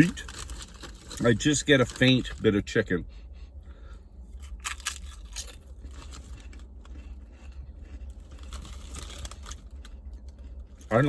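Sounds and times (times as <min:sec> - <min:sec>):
potato chips crunching: 0:00.0 - 0:02.4, 0:04.4 - 0:11.0.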